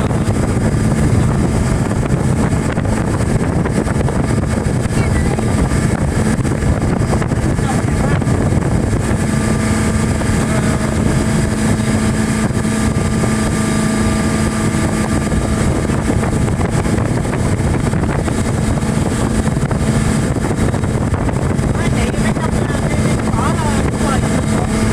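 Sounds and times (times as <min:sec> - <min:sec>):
speedboat engine humming: 0:00.0 - 0:24.9
wind on microphone: 0:00.0 - 0:24.9.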